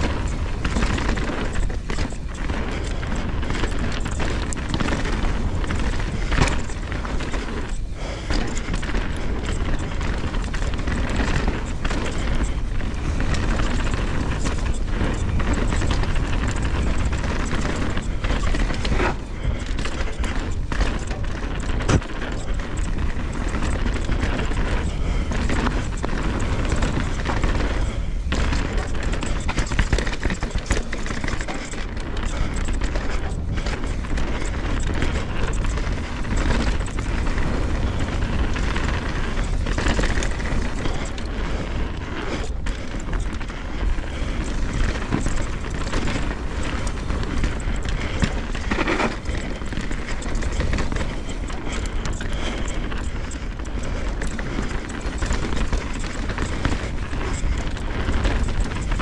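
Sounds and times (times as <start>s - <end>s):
bike knocks and rattles: 0.0s - 59.0s
wind buffeting microphone: 0.0s - 59.0s.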